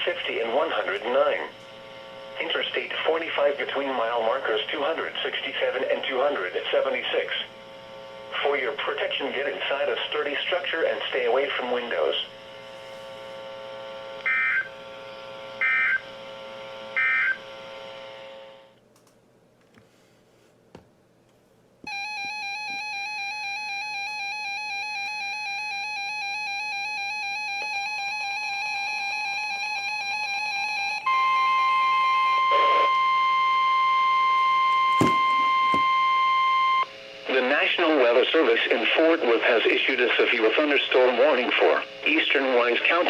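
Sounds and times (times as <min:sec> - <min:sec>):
loud steady warning alarm tone: 0:00.0 - 0:18.8, 0:21.8 - 0:43.0.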